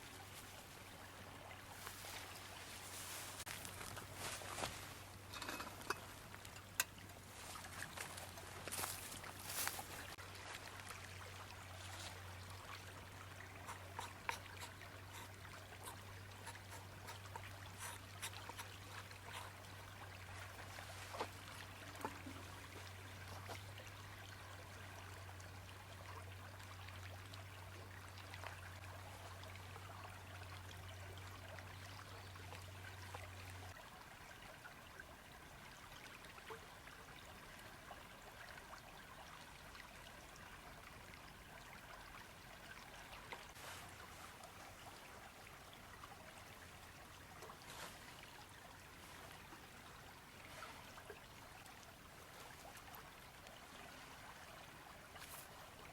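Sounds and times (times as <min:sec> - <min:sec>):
river flowing: 0:00.0 - 0:55.9.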